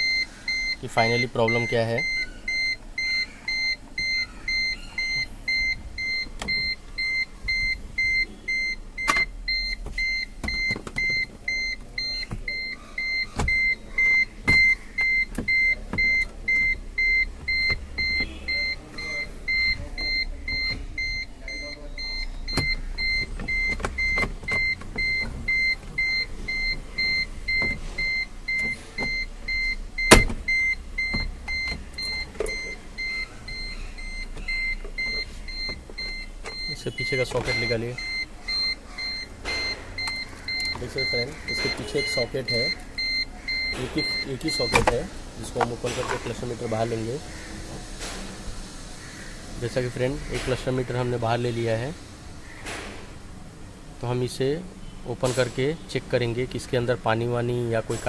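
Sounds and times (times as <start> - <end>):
dashboard warning buzzer beeping: 0.0 - 53.3.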